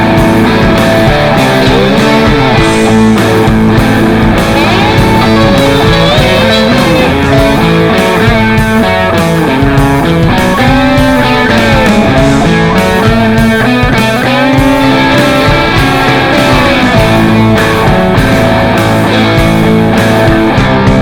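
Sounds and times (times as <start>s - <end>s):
rock music with electric guitars: 0.0s - 21.0s.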